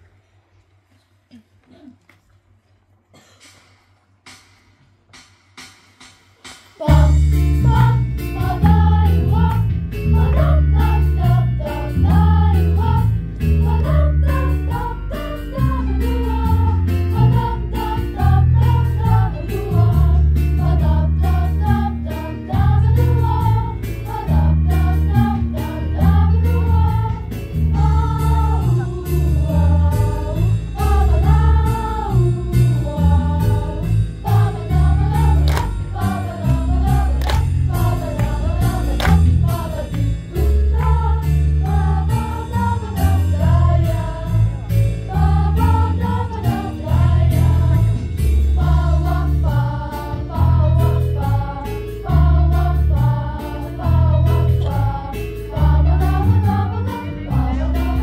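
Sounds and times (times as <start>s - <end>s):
instrumental music with heavy bass: 4.1s - 58.0s
girls' choir singing in unison: 6.8s - 58.0s.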